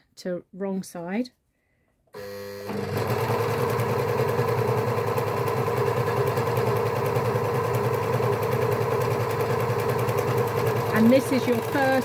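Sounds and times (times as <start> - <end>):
overlocker whirring: 2.2 - 12.0.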